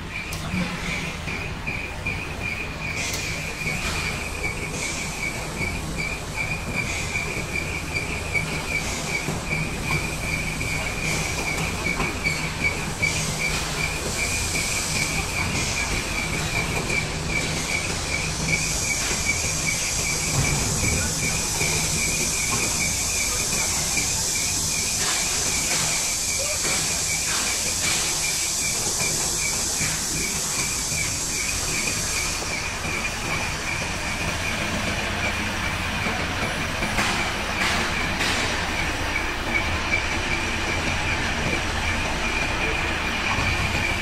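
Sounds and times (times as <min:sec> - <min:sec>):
hydraulic whine: 0:00.0 - 0:44.0
hiss: 0:00.2 - 0:44.0.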